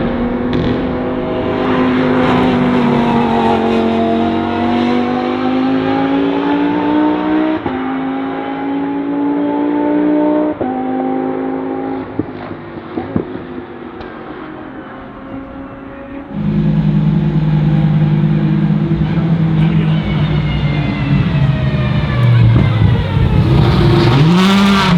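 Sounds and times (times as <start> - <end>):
race car engine accelerating: 0.0 - 24.9.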